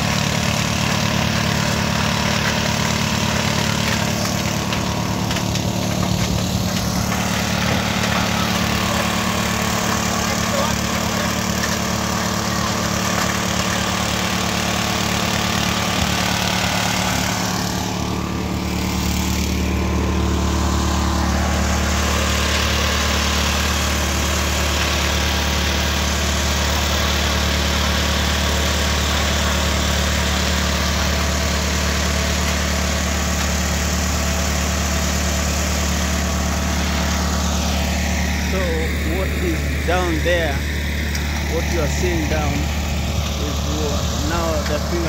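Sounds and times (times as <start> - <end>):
threshing machine running: 0.0 - 45.0.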